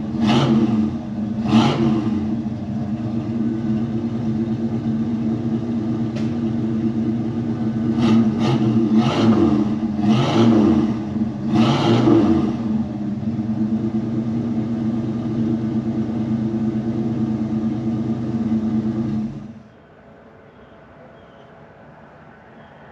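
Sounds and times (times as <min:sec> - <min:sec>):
truck engine idling and revving: 0:00.0 - 0:19.8.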